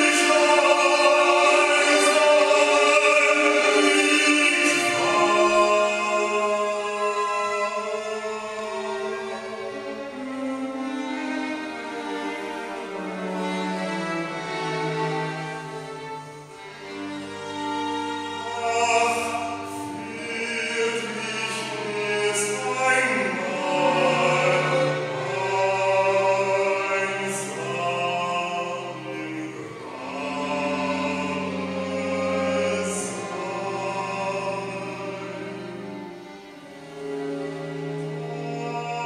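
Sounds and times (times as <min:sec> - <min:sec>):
man singing classical song: 0:00.0 - 0:39.0
string quartet playing: 0:00.0 - 0:39.0.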